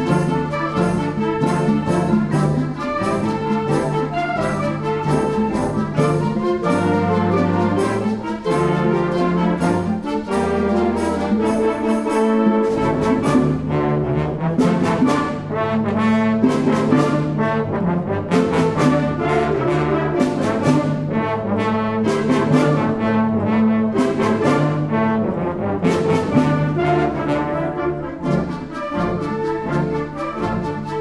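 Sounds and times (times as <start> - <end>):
brass band chords: 0.0 - 31.0.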